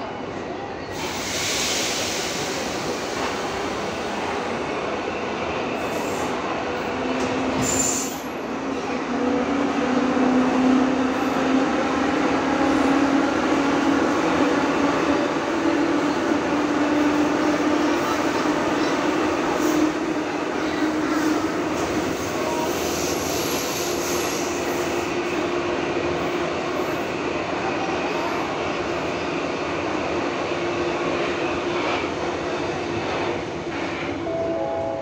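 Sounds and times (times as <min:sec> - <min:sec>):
metro train running on track: 0:00.0 - 0:35.0.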